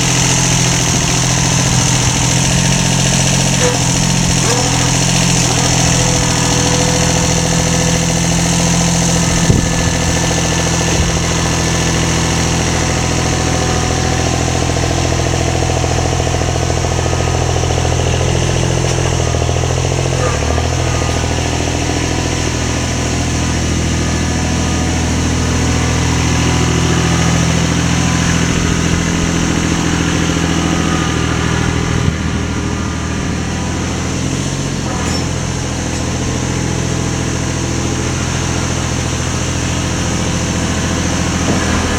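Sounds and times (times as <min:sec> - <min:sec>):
motor droning: 0:00.0 - 0:41.9.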